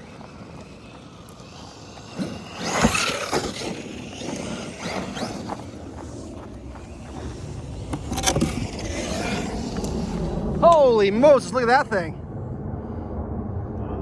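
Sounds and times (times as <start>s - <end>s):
electric motor whining: 0.0s - 11.8s.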